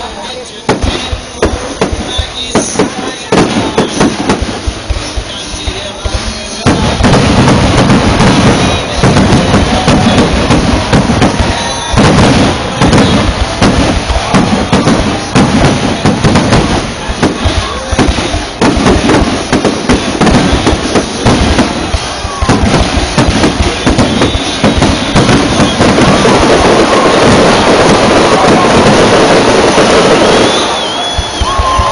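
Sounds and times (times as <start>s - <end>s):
fireworks bursting and crackling: 0.0s - 31.9s.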